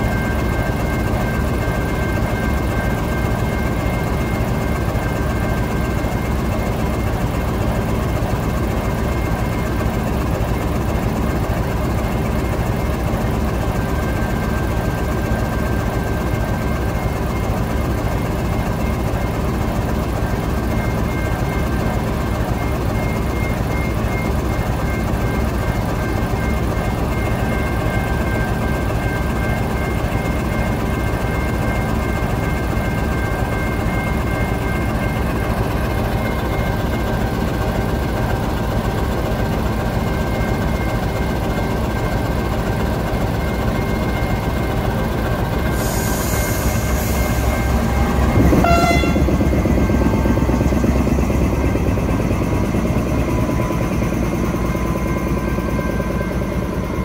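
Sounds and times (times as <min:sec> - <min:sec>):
locomotive engine droning: 0:00.0 - 0:57.0
steady whine: 0:00.0 - 0:57.0.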